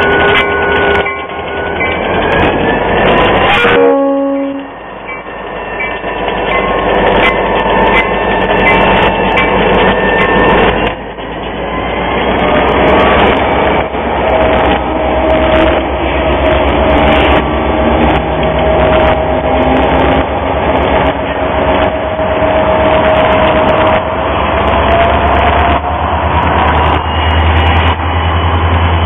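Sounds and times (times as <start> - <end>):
diesel locomotive engines throbbing: 0.0 - 29.0.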